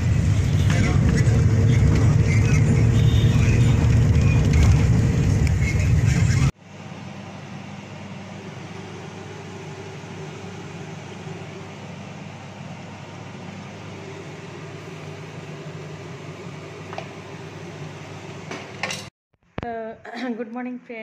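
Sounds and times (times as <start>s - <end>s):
mechanical hum and rumble: 0.0s - 21.0s.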